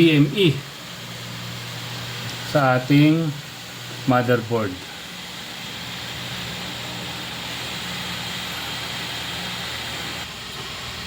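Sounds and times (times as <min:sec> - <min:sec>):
computer cooling fan hiss: 0:00.0 - 0:11.0.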